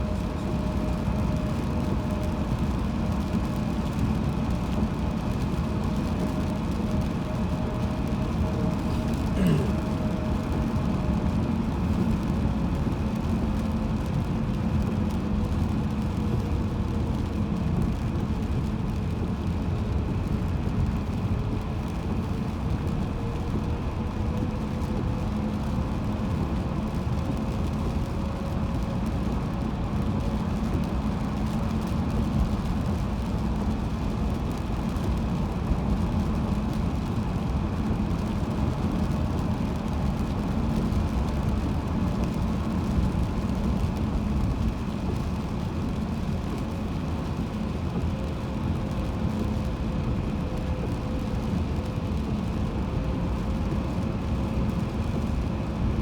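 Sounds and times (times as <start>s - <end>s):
car road noise on highway: 0.0s - 56.0s.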